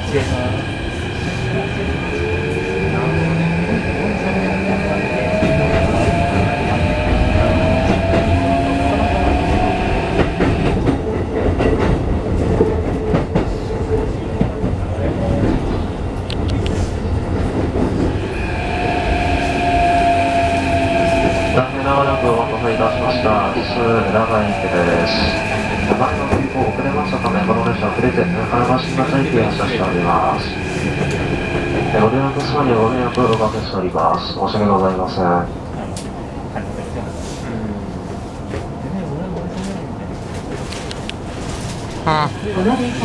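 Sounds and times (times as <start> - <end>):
wheels rumbling and clattering on rail: 0.0 - 43.0.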